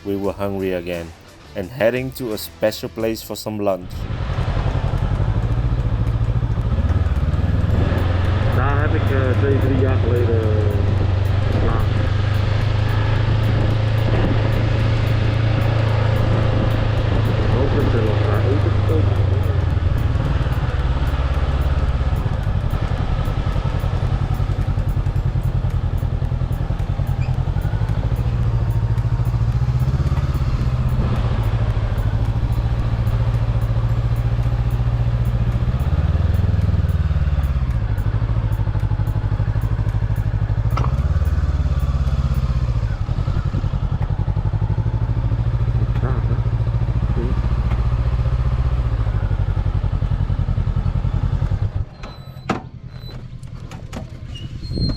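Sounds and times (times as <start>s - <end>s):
motorbike engine droning: 3.6s - 54.9s.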